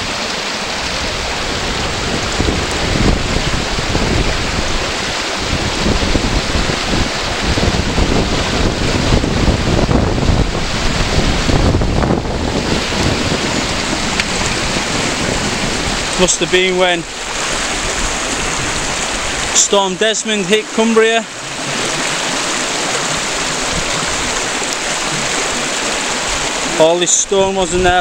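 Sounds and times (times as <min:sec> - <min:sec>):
wind buffeting microphone: 0:00.0 - 0:19.7, 0:20.7 - 0:28.0
stream rushing over stones: 0:00.0 - 0:28.0.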